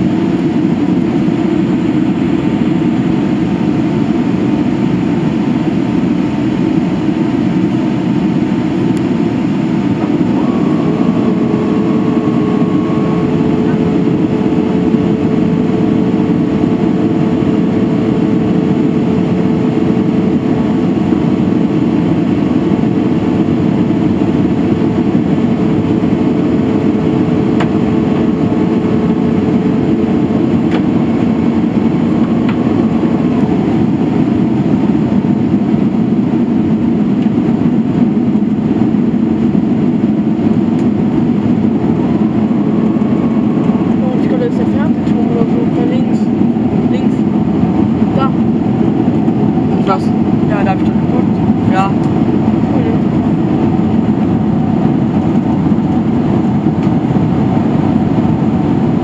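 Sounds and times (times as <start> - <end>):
faint hum: 0.0 - 59.0
jet engines droning: 0.0 - 59.0.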